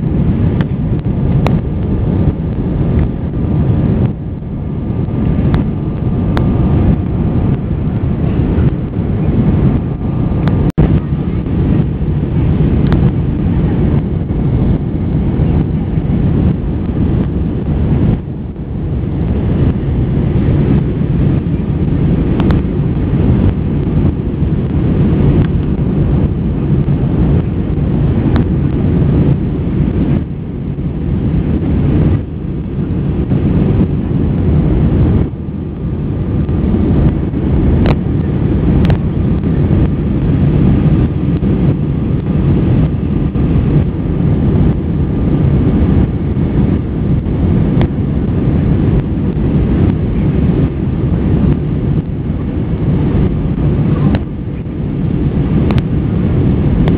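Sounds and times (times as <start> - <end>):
airplane cabin engine drone: 0.0 - 56.9.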